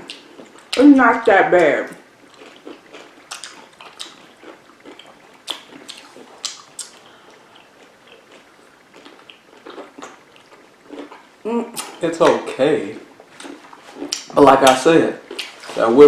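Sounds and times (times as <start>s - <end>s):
crunching and wet chewing: 0.0s - 0.8s, 2.0s - 16.0s.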